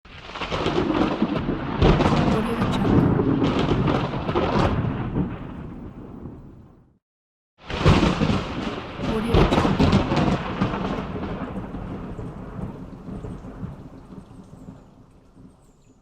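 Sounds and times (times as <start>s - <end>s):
low thunder rumble: 0.1s - 7.0s, 7.7s - 15.5s
thunder crack: 0.1s - 7.0s, 7.6s - 14.3s
thunder crackling: 0.1s - 7.0s, 7.6s - 15.5s.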